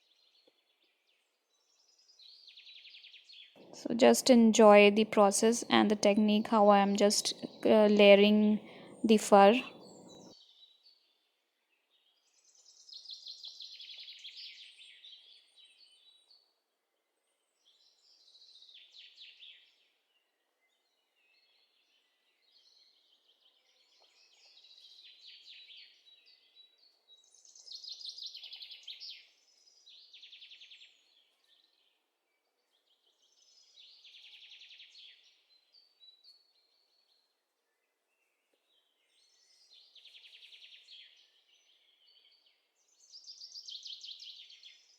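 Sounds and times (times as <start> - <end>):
small birds chirping: 0.0 - 16.6, 17.2 - 44.9.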